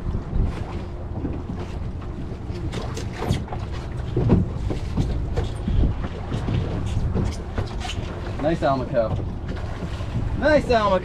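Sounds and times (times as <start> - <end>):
boat engine humming: 0.0 - 11.0
wind on microphone: 0.0 - 11.0
knocks on boat: 1.2 - 10.6.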